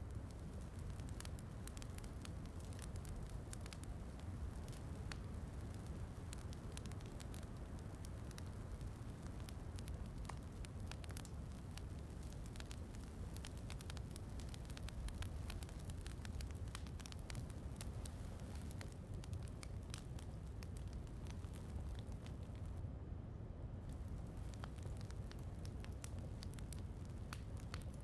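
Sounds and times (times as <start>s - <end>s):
wood fire crackling and popping: 0.0s - 22.8s, 23.8s - 28.0s
low rumble of rain: 0.0s - 28.0s.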